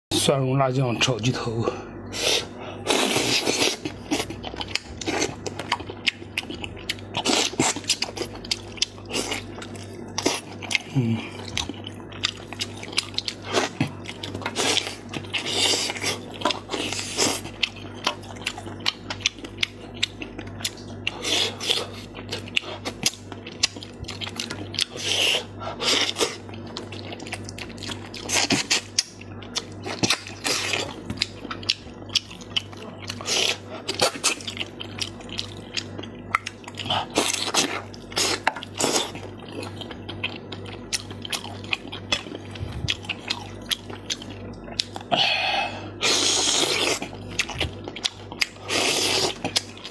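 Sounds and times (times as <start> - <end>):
steady low hum: 0.1 - 49.9
chewing and crunching: 2.2 - 49.9.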